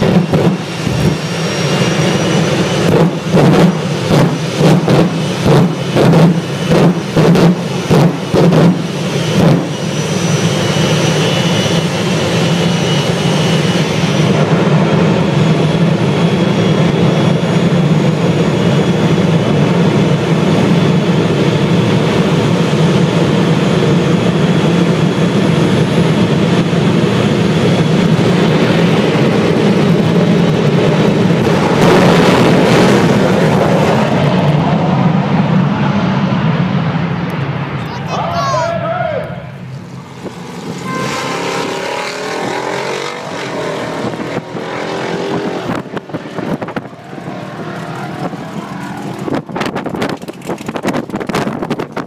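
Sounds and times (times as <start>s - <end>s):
jet engines running loud: 0.0s - 52.0s.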